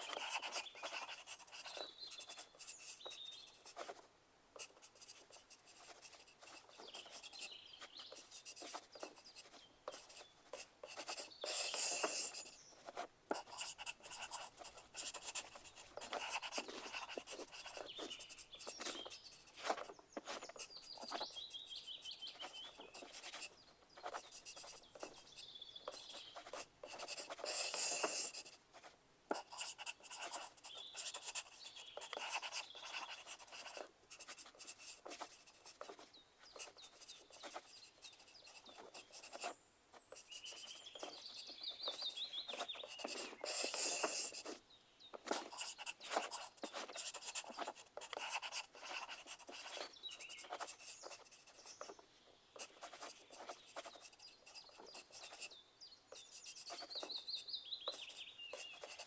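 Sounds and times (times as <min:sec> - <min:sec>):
pencils scratching on paper: 0:00.0 - 0:44.6, 0:45.2 - 0:52.0, 0:52.6 - 0:59.0.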